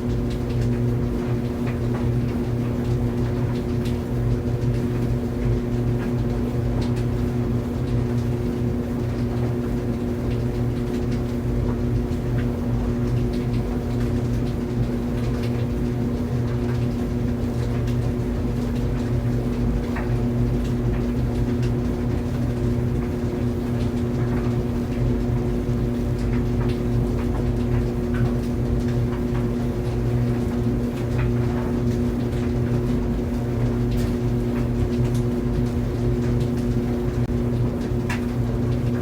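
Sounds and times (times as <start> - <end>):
clothes dryer running: 0.0 - 39.0.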